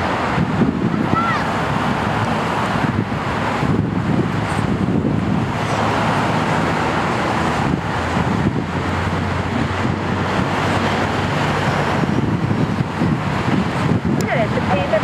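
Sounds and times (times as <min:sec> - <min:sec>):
jet engines roaring at takeoff: 0:00.0 - 0:15.0
wind buffeting microphone: 0:00.0 - 0:15.0.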